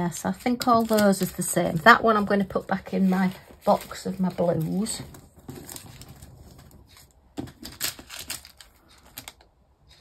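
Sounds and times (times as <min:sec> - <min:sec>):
plastic bags crinkling: 0:00.6 - 0:09.4.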